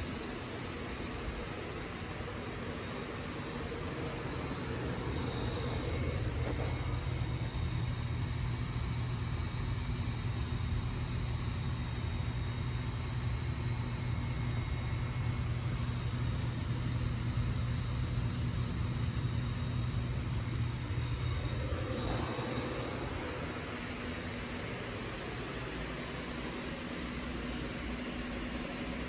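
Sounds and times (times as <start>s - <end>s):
cooling appliance hum and airflow: 0.0s - 29.0s
faint high whine: 0.0s - 29.0s.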